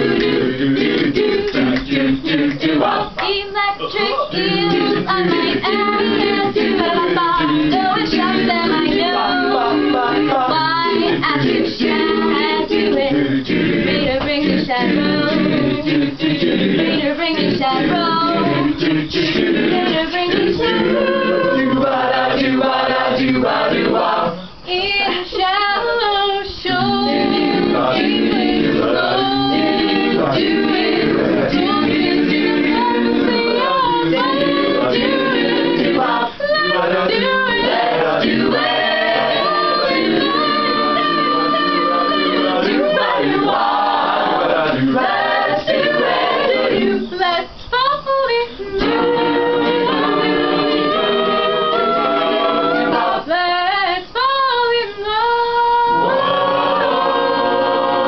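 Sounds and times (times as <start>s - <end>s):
a cappella group singing: 0.0s - 58.0s.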